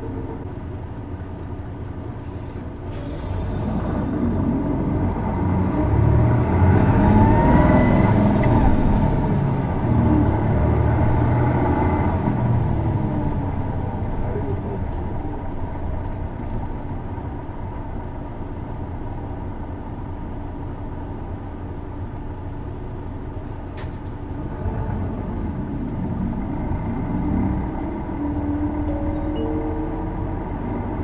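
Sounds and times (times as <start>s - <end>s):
bus diesel engine rumbling: 0.0s - 31.0s
rising engine whine: 2.3s - 20.4s, 24.3s - 31.0s.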